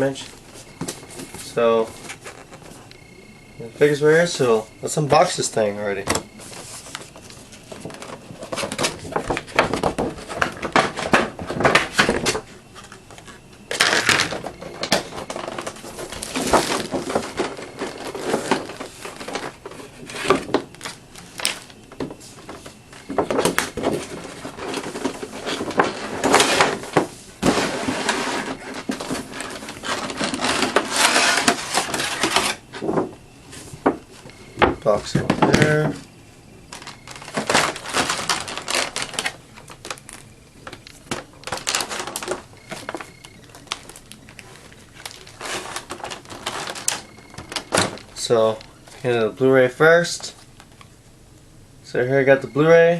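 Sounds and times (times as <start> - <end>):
packaging rustling and scraping: 0.0 - 3.0, 3.7 - 36.1, 36.7 - 49.3.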